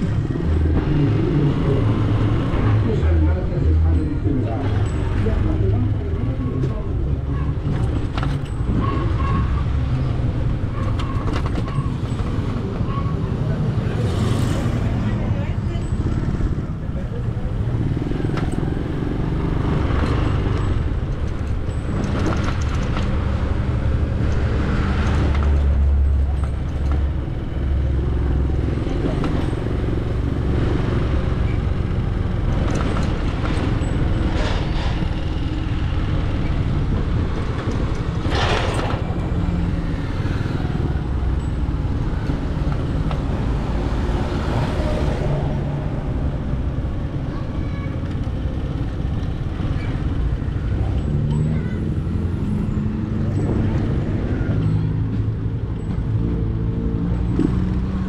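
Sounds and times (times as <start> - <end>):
road noise: 0.0 - 58.0
vehicle engine rumble: 0.0 - 58.0.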